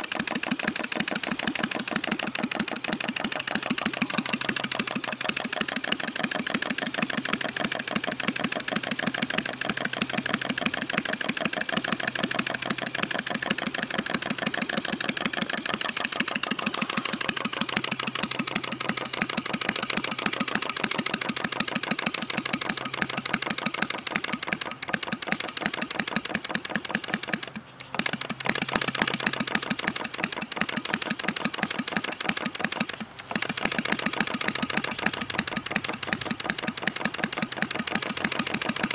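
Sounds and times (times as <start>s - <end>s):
model engine running: 0.0s - 38.9s.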